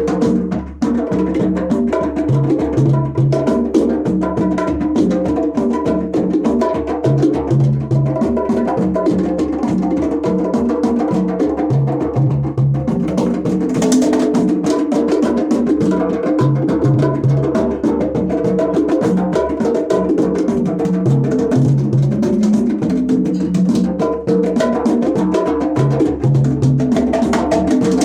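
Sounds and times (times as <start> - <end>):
drums: 0.0 - 28.0.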